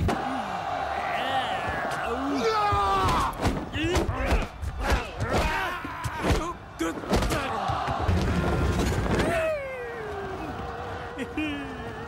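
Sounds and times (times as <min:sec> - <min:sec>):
people shouting and grunting: 0:00.0 - 0:12.0.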